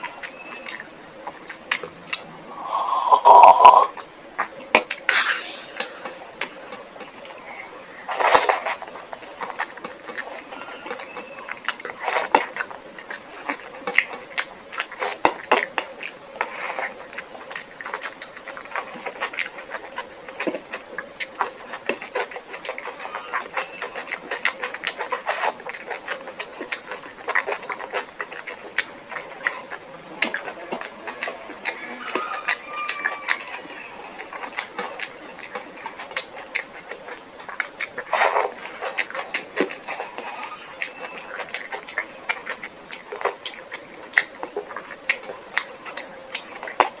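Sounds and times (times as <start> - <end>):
person chewing close up: 0.0 - 47.0.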